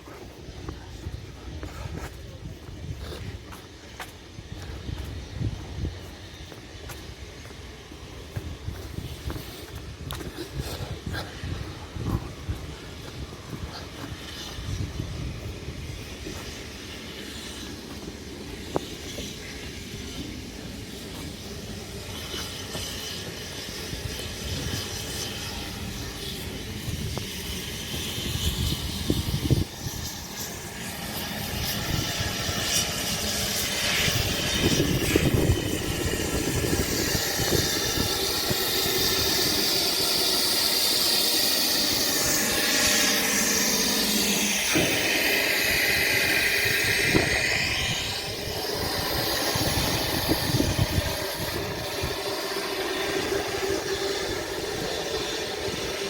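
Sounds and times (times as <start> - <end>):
train moving through station: 0.0 - 56.0
wheels whining on rail: 0.0 - 56.0.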